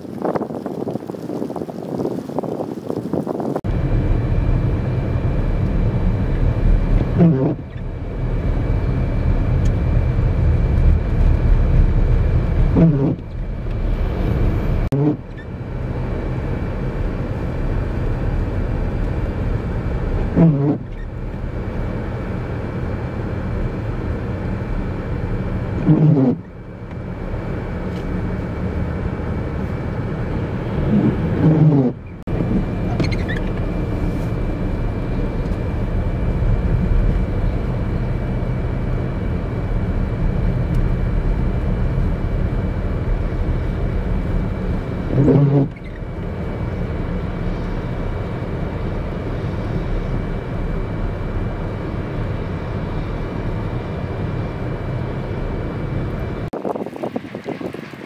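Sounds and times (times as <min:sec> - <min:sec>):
highway traffic rumble: 0:00.0 - 0:58.0
wind: 0:00.0 - 0:58.0.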